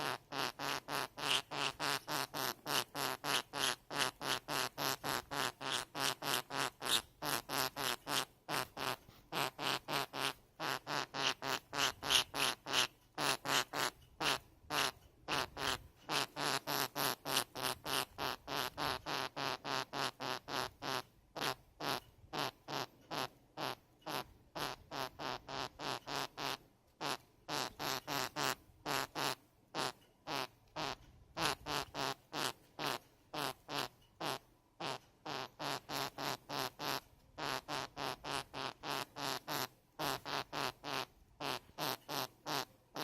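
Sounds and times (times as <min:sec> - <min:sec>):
budgerigar calling: 0:00.0 - 0:43.0.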